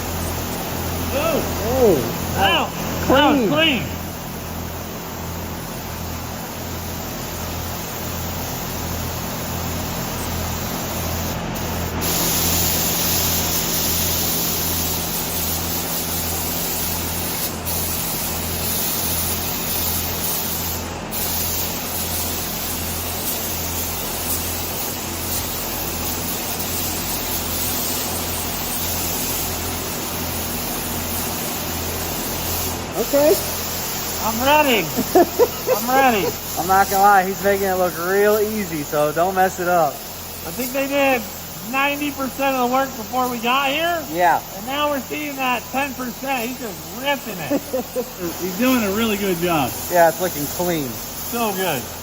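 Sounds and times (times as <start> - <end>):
paint spray gun hissing: 0.0 - 52.0.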